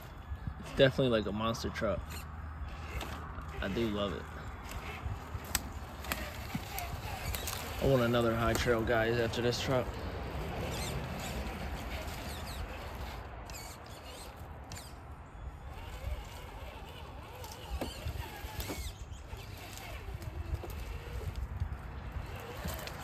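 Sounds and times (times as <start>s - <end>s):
crackles and rustles of leaves: 0.0s - 23.0s
toy car motor rumble: 0.0s - 23.0s.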